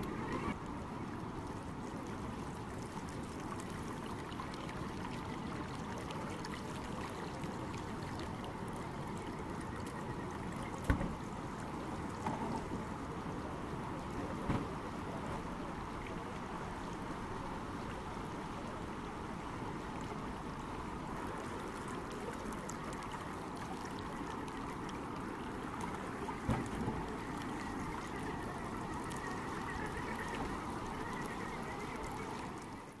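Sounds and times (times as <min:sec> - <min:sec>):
water flowing over rock: 0:00.0 - 0:33.0.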